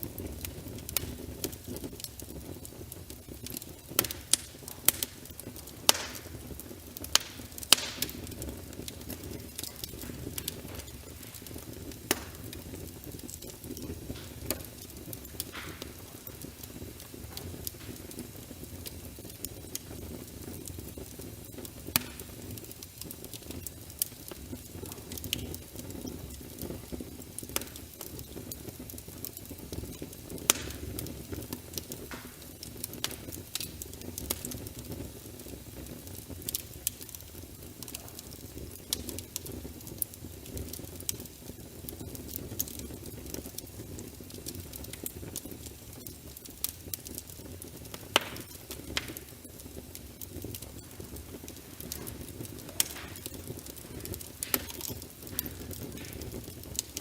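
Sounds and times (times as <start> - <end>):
fire crackles and pops: 0.0 - 57.0
low rumble of flames: 0.0 - 57.0.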